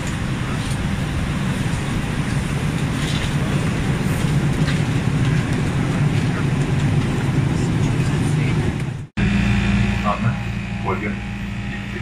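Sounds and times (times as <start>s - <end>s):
cabin air system hum: 0.0s - 12.0s.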